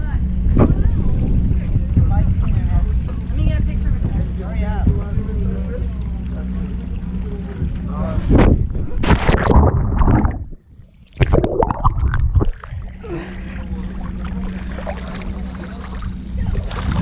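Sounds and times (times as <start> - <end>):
sea water splashing and sloshing: 2.2 - 17.0.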